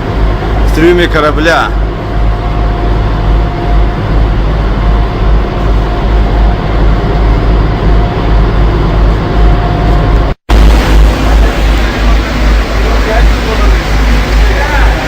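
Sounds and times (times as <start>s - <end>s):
boat engine rumbling: 0.0s - 15.0s
faint whine: 0.0s - 15.0s.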